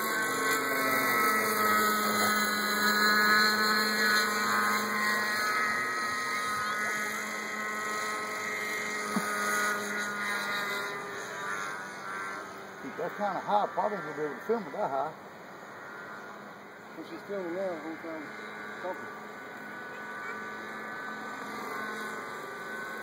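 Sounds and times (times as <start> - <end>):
model helicopter engine and rotor buzz: 0.0 - 23.0.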